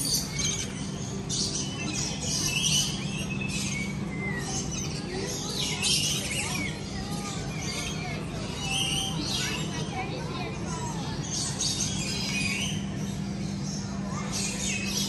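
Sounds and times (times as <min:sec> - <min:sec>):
birds chirping and squawking: 0:00.0 - 0:15.0
steady low hum: 0:00.0 - 0:15.0.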